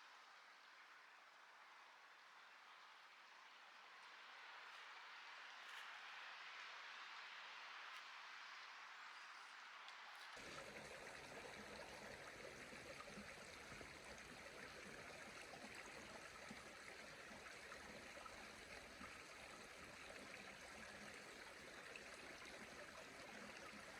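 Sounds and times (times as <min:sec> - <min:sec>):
faint steady rushing noise: 0:00.0 - 0:23.9.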